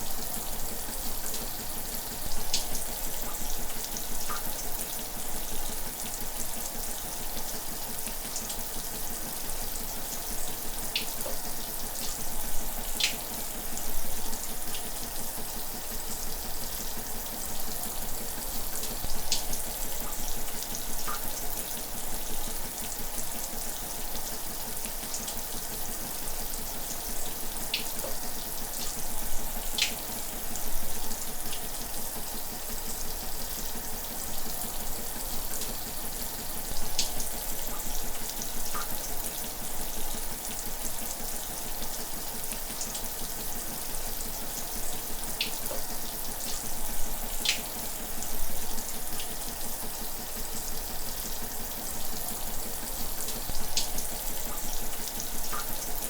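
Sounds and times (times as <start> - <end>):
shower running: 0.0 - 56.0.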